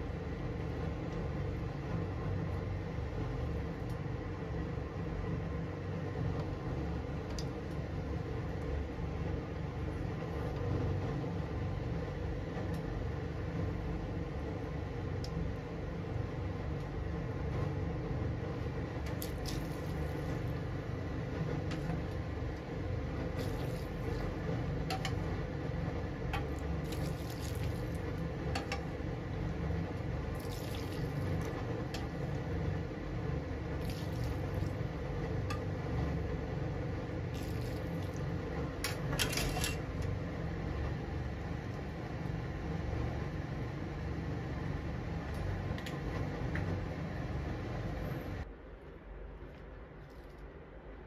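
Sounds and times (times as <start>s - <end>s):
faint hum: 0.0s - 51.0s.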